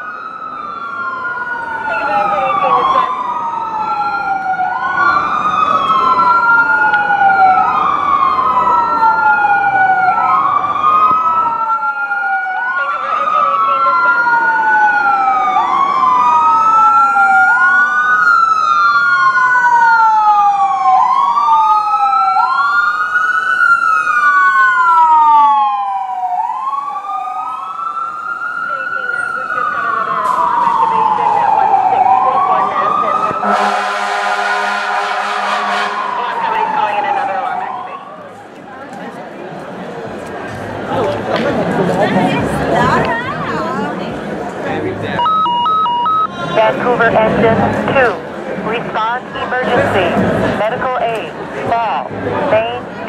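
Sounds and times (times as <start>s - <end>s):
second weaker siren: 0.0s - 38.4s, 45.2s - 53.0s
fire engine siren wailing: 0.0s - 53.0s.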